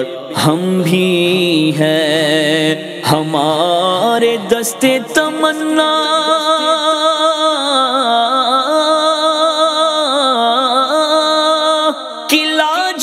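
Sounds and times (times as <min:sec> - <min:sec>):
person singing: 0:00.0 - 0:13.0.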